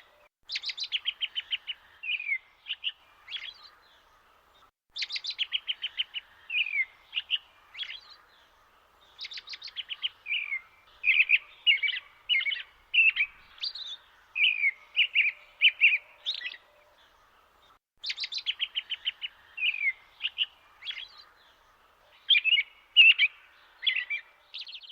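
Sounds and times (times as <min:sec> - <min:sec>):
small birds singing: 0:00.0 - 0:24.9.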